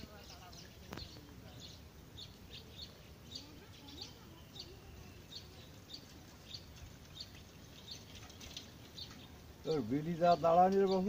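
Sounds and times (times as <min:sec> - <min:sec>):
bird chirping: 0:00.0 - 0:11.0
faint outdoor background noise: 0:00.0 - 0:11.0.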